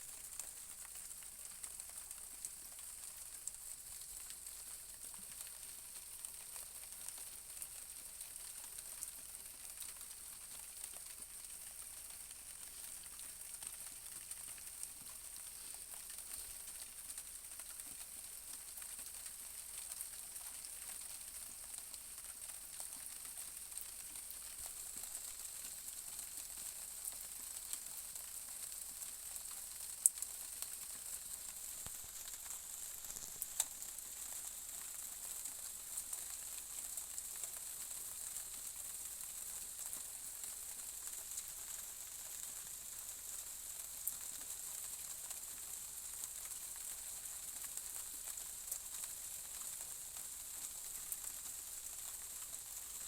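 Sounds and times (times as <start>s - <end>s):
light rain hiss: 0.0s - 53.0s
raindrop ticks: 0.2s - 53.0s.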